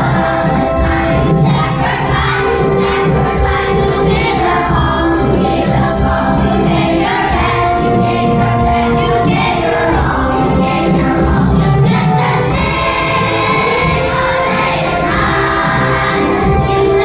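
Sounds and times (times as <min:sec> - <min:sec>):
children's choir singing: 0:00.0 - 0:17.0
musical accompaniment: 0:00.0 - 0:17.0.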